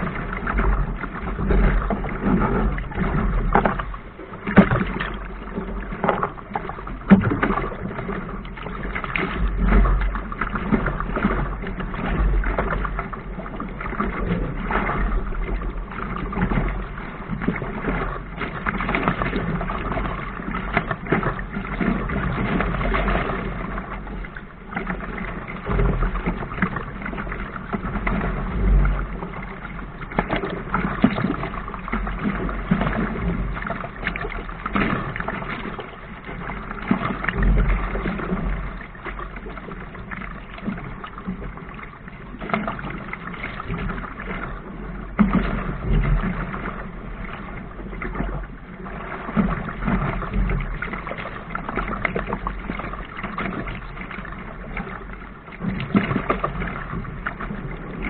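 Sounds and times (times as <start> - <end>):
water rushing along a hull: 0.0 - 58.0
waves slapping against a bow: 0.0 - 58.0.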